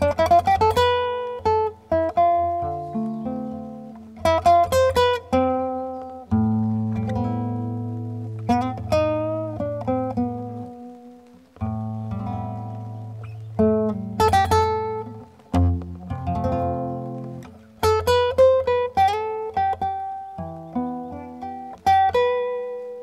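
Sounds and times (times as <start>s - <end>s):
solo classical guitar: 0.0s - 23.0s.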